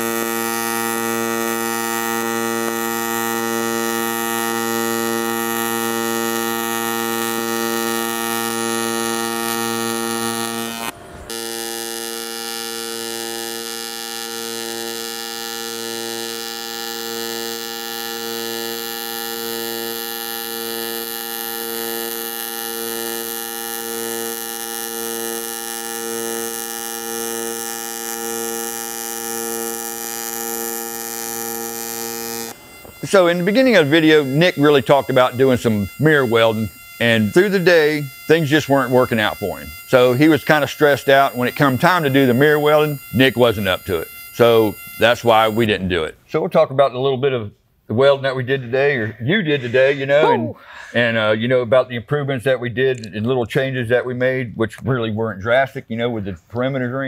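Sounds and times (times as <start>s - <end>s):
welding arc buzzing: 0.0s - 46.2s.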